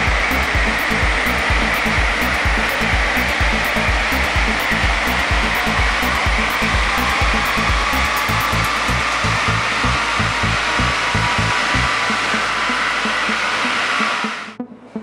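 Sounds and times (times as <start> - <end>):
background music beat: 0.0 - 15.0.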